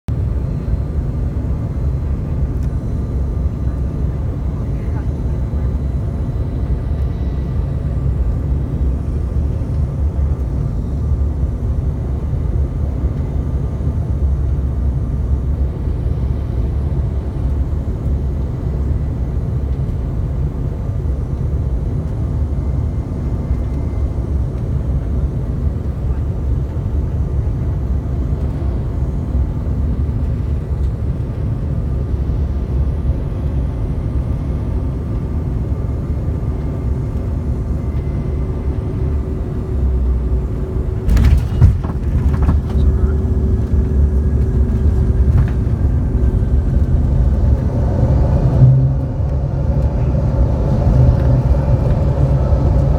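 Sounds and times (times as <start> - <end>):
faint steady whine: 0.1 - 52.9
jet cabin rumble: 0.1 - 52.9.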